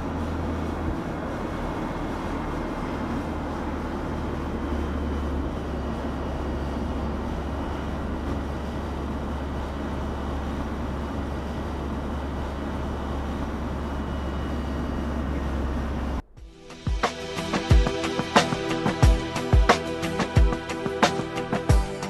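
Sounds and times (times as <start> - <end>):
road and wind noise: 0.0 - 21.7
car engine drone: 0.0 - 22.0.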